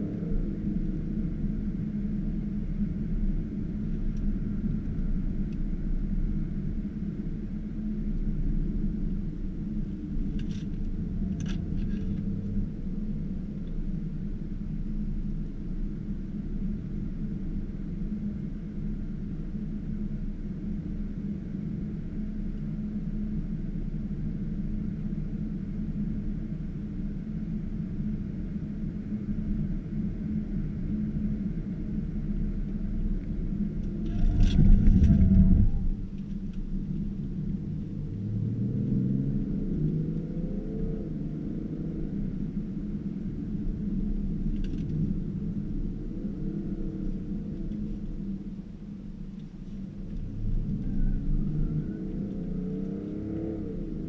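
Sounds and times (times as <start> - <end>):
diesel engine rumble: 0.0 - 54.0
road noise: 0.0 - 54.0.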